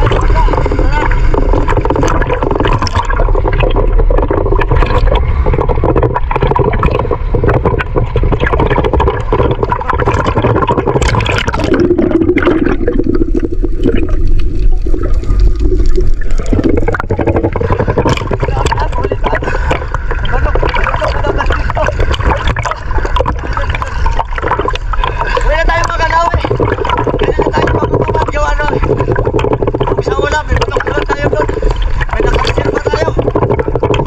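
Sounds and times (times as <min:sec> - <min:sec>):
muffled underwater gurgling: 0:00.0 - 0:34.0
seawater sloshing and splashing: 0:00.0 - 0:34.0.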